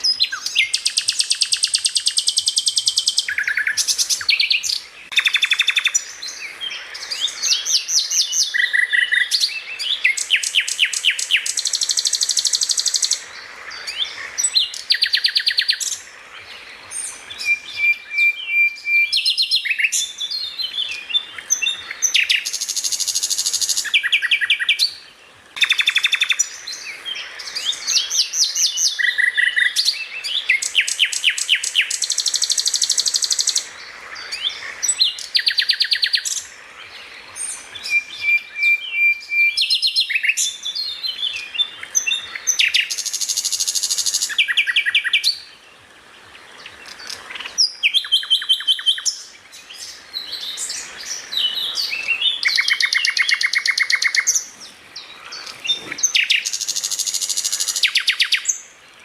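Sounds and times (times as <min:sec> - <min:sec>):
songbird singing trills: 0:00.0 - 0:45.7, 0:46.3 - 0:58.8.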